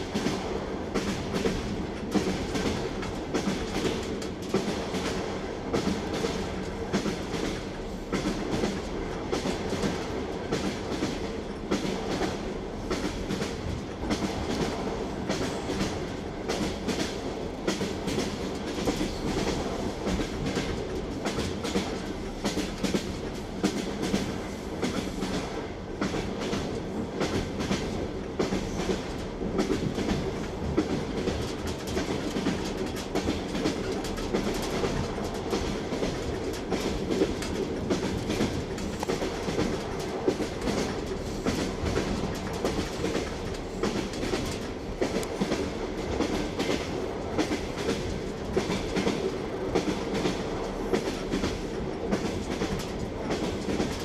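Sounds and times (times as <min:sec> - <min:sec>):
railway carriage rumble and hum: 0:00.0 - 0:54.0
train wheels clattering over rail joints: 0:00.0 - 0:54.0.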